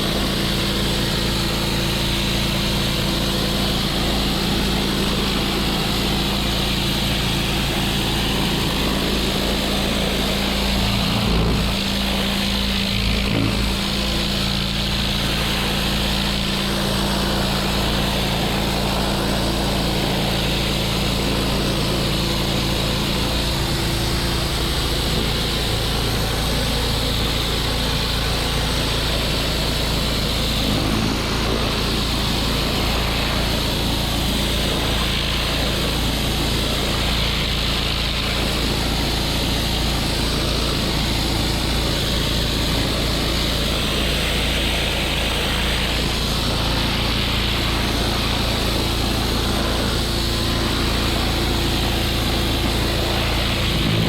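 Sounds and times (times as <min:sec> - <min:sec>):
small engine running: 0:00.0 - 0:54.0
water spray hissing: 0:00.0 - 0:54.0.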